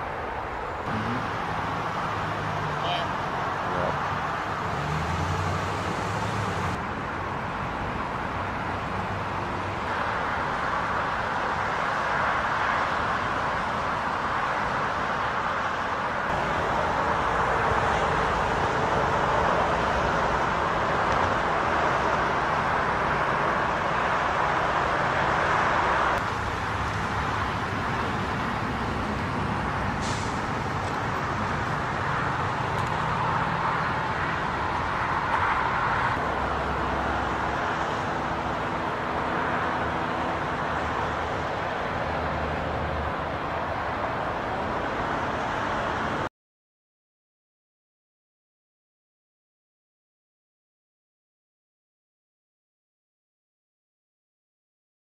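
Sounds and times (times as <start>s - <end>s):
vehicle engines idling: 0.0s - 46.2s
road noise: 0.0s - 46.3s.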